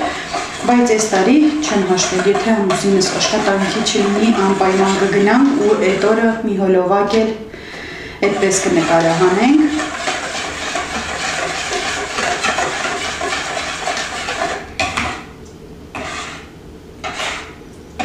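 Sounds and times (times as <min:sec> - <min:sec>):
whisk beating batter in a bowl: 0:00.0 - 0:06.4, 0:08.2 - 0:15.3, 0:16.0 - 0:17.6.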